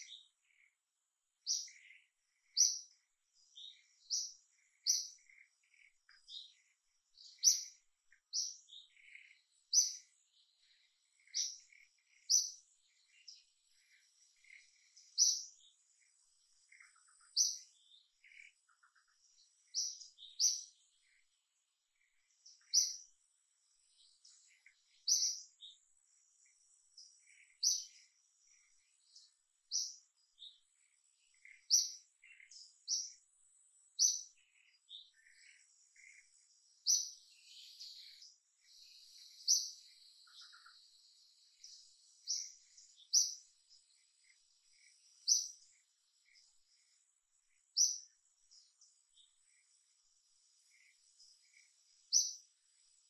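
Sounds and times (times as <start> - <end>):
faint bird peeps: 0.0 - 0.8, 1.4 - 21.3, 21.9 - 23.2, 23.8 - 25.8, 26.4 - 33.2, 34.0 - 49.8, 50.6 - 52.6
bird chirping: 0.0 - 53.0.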